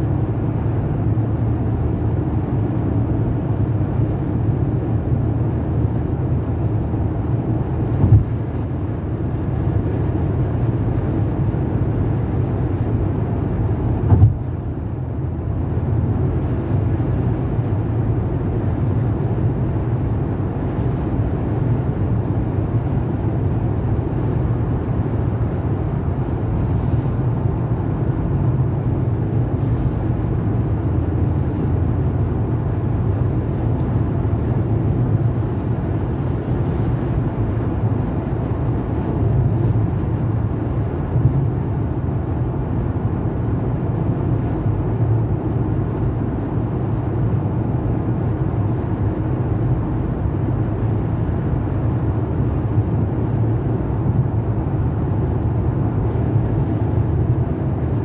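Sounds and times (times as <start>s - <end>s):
car cabin road and engine rumble: 0.0s - 58.0s.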